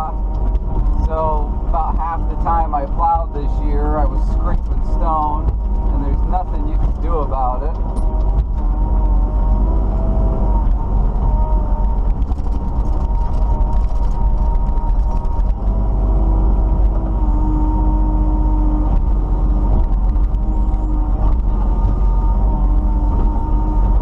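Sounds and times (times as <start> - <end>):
excavator diesel engine drone: 0.0 - 24.0
hydraulic whining tones: 0.0 - 24.0.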